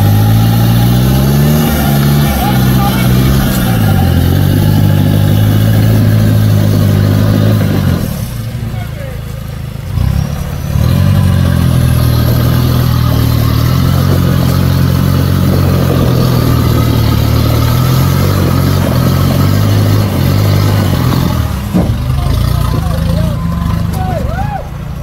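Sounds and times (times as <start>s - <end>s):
engine running under load: 0.0s - 25.0s.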